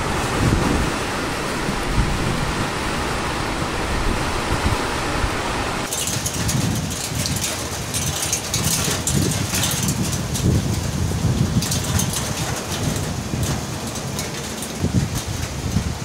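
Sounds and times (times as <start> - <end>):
heavy rain: 0.0 - 16.0
wind gusts on microphone: 0.0 - 16.0.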